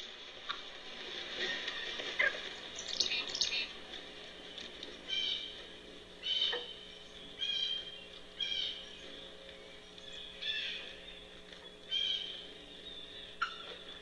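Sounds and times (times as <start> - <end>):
faint steady hum: 0.0 - 14.0
bird calling: 1.4 - 3.8, 5.0 - 14.0.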